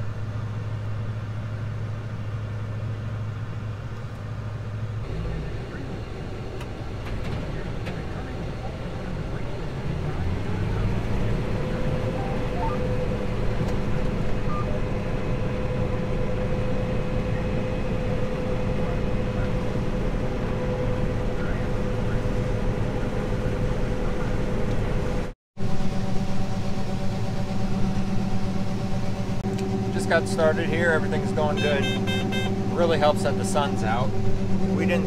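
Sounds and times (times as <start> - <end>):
combine harvester hum and whine: 0.0 - 35.0.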